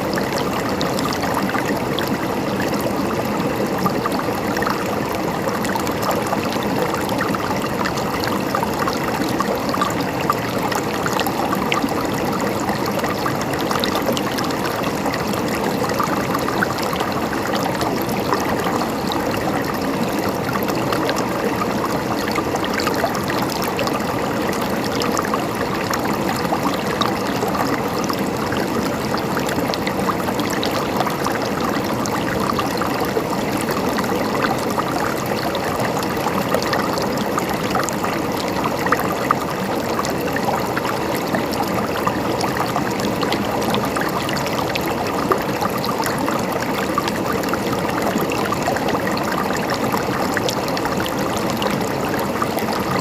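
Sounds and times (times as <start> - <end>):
water trickling and gurgling: 0.0 - 53.0.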